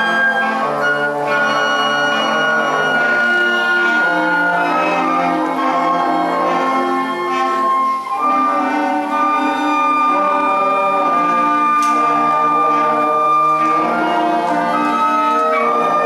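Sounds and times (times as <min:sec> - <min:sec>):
concert band playing: 0:00.0 - 0:16.0.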